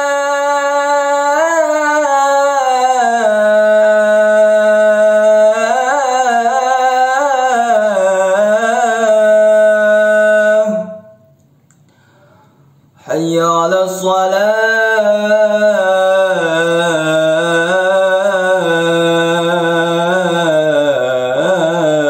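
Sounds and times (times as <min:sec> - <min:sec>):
man chanting call to prayer: 0:00.0 - 0:11.3, 0:13.0 - 0:22.0.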